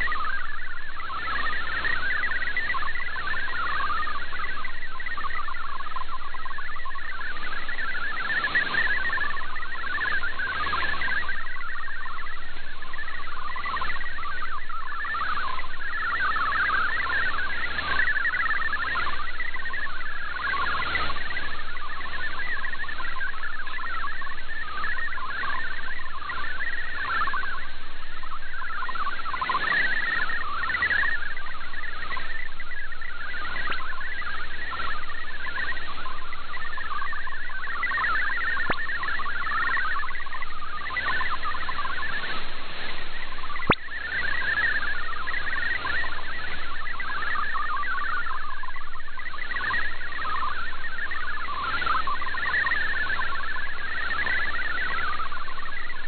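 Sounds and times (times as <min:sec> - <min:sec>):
radio hiss: 0:00.0 - 0:56.0
warbling digital radio tones: 0:00.0 - 0:56.0.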